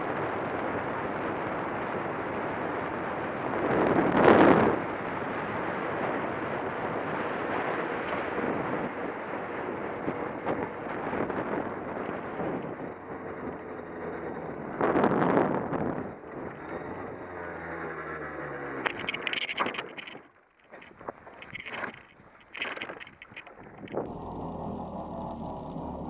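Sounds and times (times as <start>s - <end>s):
wind noise on microphone: 0.0s - 24.1s
moped engine running: 5.1s - 26.0s.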